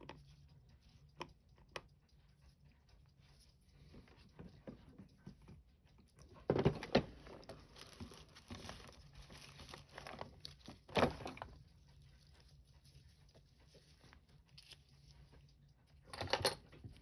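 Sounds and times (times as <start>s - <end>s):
light scratching and crinkling: 0.0s - 17.0s.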